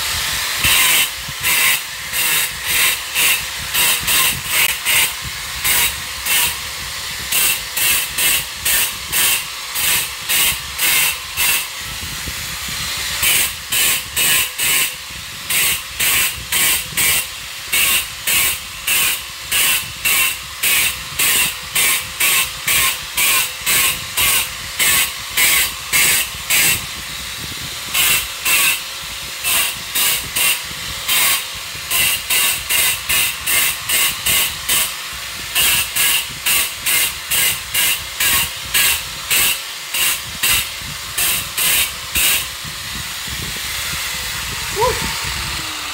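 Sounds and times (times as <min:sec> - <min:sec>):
hand tool rasping: 0:00.0 - 0:11.8, 0:13.0 - 0:27.0, 0:27.8 - 0:42.7.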